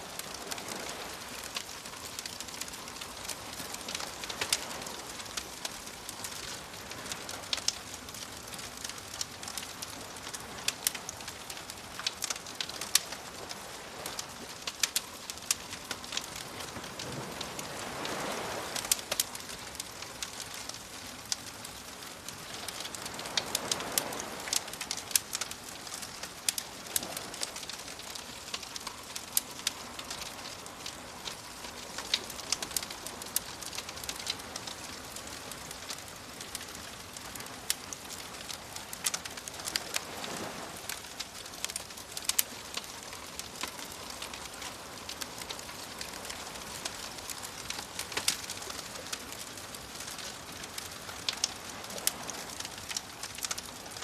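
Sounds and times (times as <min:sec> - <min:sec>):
gentle waves: 0:00.0 - 0:54.0
wood fire crackling and popping: 0:00.1 - 0:54.0.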